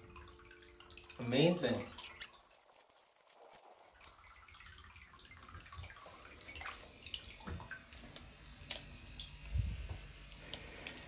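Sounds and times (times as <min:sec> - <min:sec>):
water splashing in a bathtub: 0:00.0 - 0:11.0.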